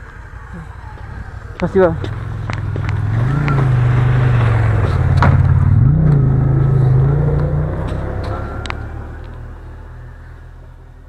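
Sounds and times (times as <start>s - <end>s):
snowmobile engine passing by: 0.6s - 9.6s.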